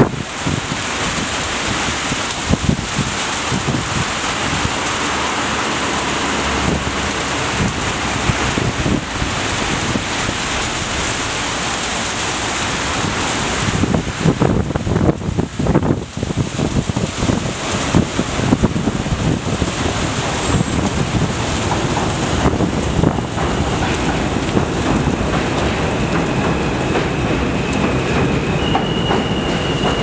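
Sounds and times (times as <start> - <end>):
steady loud hiss: 0.0 - 30.0
subway train rumbling: 0.0 - 30.0.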